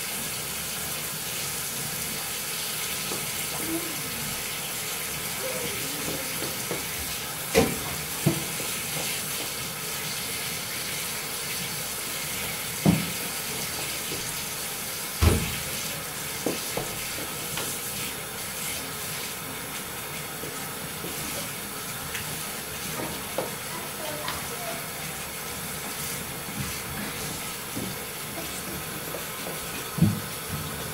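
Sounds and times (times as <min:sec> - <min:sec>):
water running into bathtub: 0:00.0 - 0:30.9.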